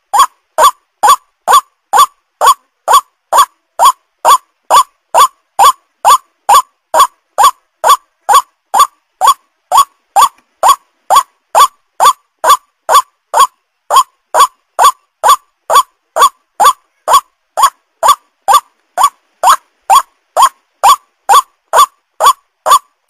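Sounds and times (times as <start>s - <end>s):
waterhen calling: 0.0s - 22.9s.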